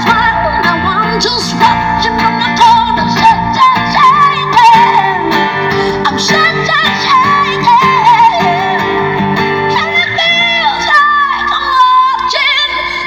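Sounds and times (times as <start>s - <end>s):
acoustic guitar: 0.0s - 13.0s
woman singing: 0.0s - 13.0s.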